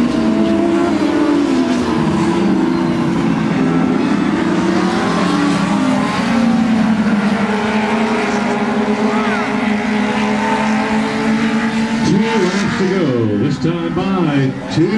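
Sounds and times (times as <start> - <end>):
race car engines at speed: 0.0 - 14.9.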